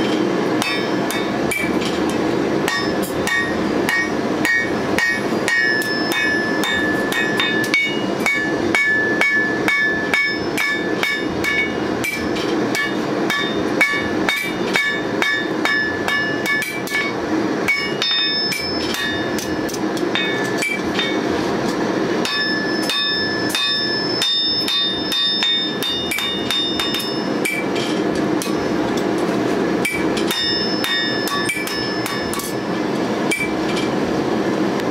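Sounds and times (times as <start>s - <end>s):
hammer ringing on anvil: 0.0s - 1.8s, 2.6s - 21.3s, 22.2s - 29.0s, 29.8s - 33.9s.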